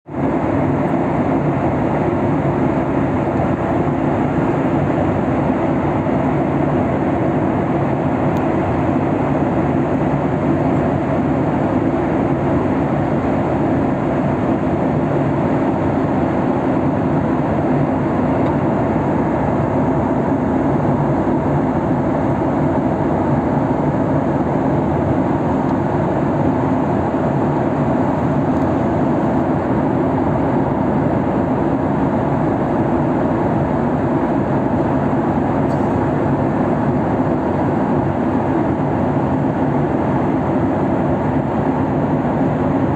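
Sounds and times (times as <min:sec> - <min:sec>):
airliner cabin drone: 0:00.1 - 0:42.9.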